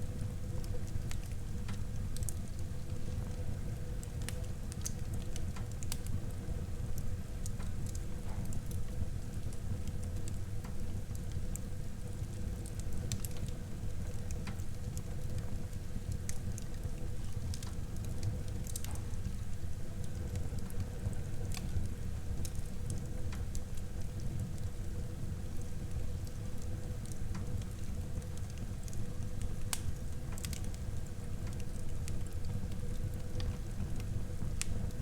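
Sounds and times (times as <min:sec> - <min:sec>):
fire burning rumble: 0:00.0 - 0:35.0
fire crackles and pops: 0:00.1 - 0:35.0.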